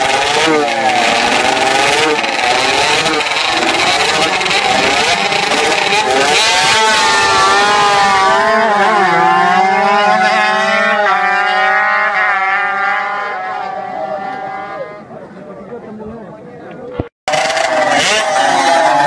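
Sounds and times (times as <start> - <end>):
motorcycle engines revving hard: 0.0 - 15.4, 17.3 - 19.0.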